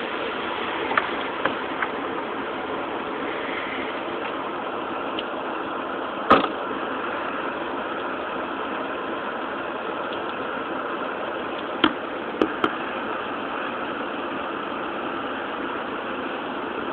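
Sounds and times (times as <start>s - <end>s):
rain: 0.0s - 16.9s.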